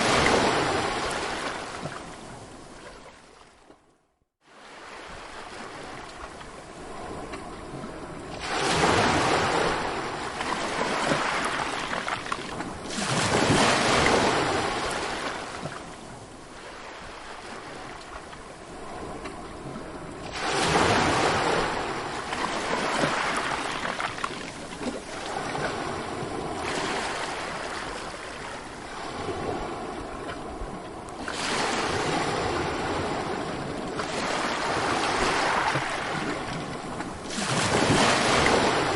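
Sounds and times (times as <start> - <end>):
ocean waves breaking: 0.0 - 3.8, 4.4 - 38.9.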